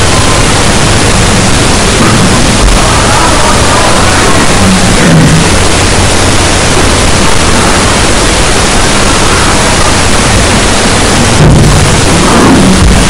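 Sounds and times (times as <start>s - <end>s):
loud steady hiss: 0.0s - 13.0s
low hum: 0.0s - 13.0s.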